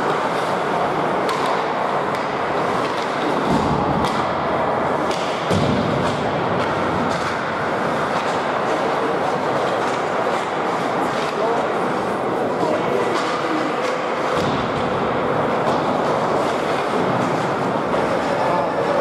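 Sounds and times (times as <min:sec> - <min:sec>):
hockey sticks and puck clacking: 0:00.0 - 0:19.0
skating and arena noise: 0:00.0 - 0:19.0.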